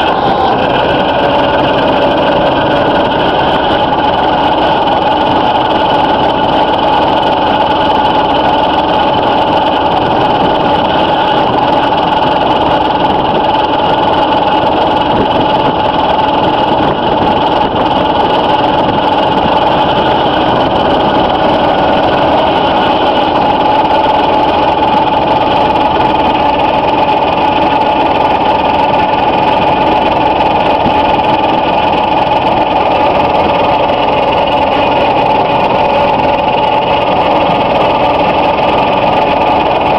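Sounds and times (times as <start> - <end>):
spreader machinery drone with whine: 0.0 - 39.9.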